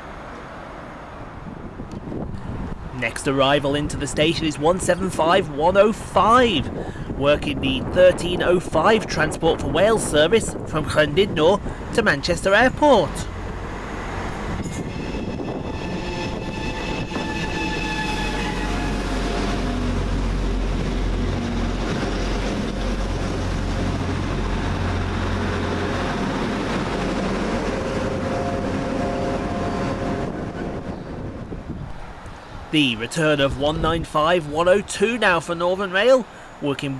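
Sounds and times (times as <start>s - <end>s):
diesel train engines droning: 0.0s - 36.9s.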